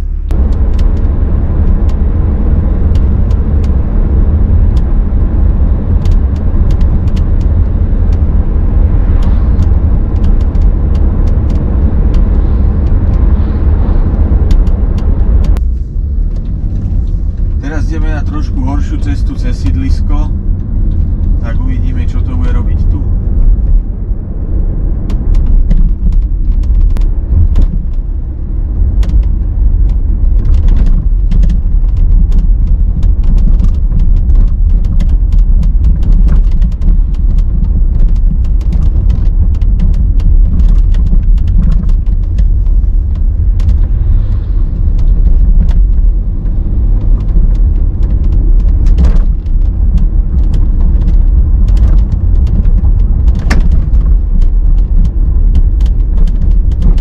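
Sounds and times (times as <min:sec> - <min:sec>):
road rumble inside car: 0:00.0 - 0:57.0
car interior creaks and clicks: 0:00.3 - 0:57.0.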